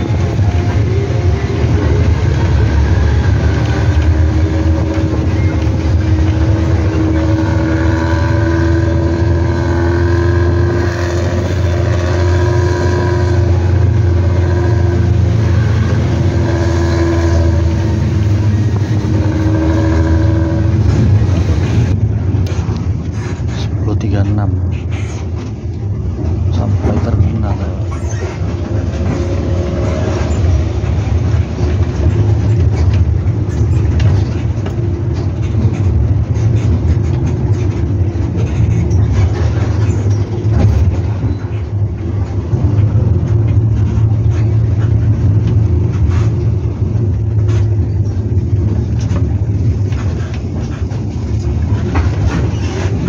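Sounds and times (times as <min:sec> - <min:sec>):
bus diesel engine drone: 0:00.0 - 0:53.0.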